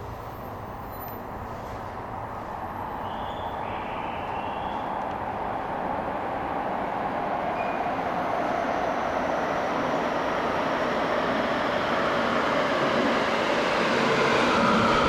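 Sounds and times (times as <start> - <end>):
train rumbling through tunnel: 0.0 - 15.0.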